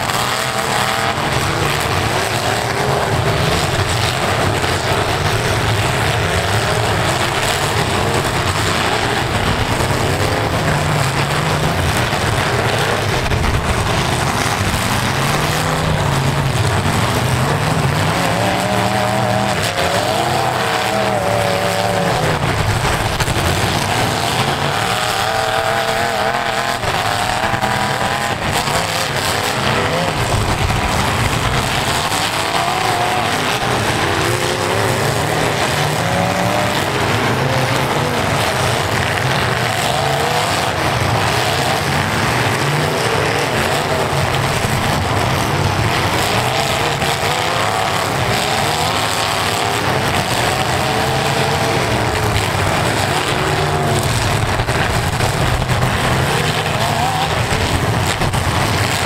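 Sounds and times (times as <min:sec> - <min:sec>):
car engines revving hard: 0:00.0 - 0:59.0.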